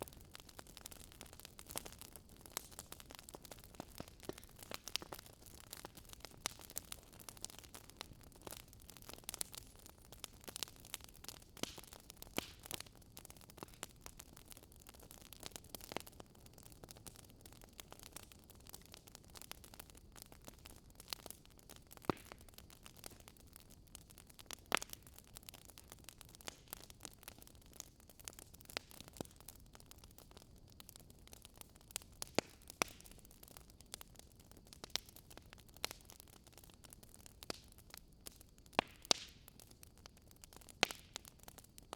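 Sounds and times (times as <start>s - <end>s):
wood fire popping and crackling: 0.0s - 41.9s.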